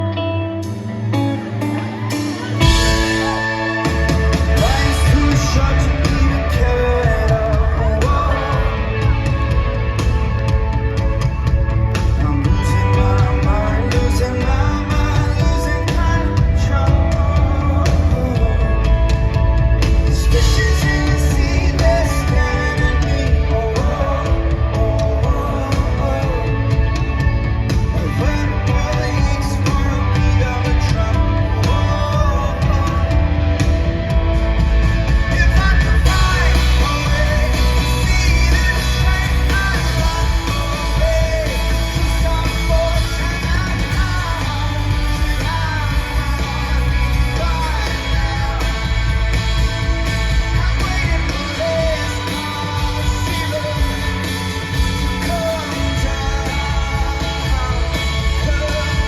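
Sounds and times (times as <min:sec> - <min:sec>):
live rock band: 0:00.0 - 0:59.0
person singing lead vocal: 0:00.0 - 0:59.0.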